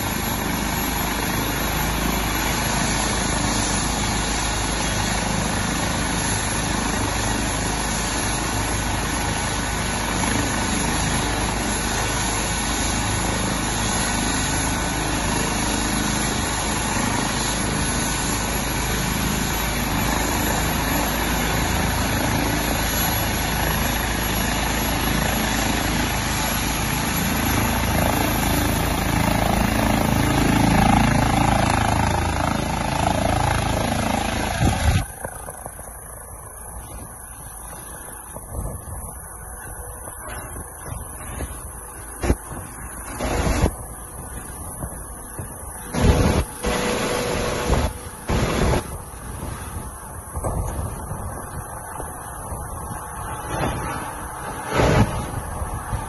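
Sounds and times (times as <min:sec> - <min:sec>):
helicopter rotor: 0:00.0 - 0:56.0
turbine whine: 0:00.0 - 0:56.0.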